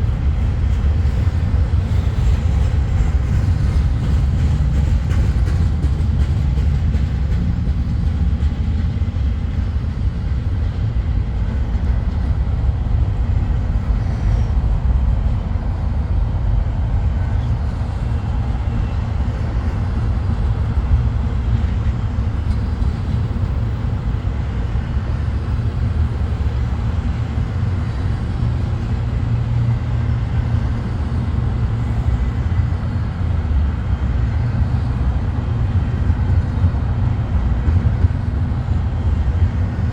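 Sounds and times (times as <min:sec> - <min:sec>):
freight train rumbling on rails: 0:00.0 - 0:39.9.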